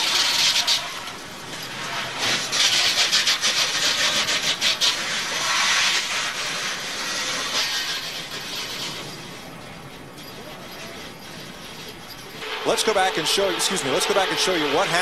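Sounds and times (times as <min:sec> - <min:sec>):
tyres scrubbing and car skidding: 0:00.0 - 0:15.0.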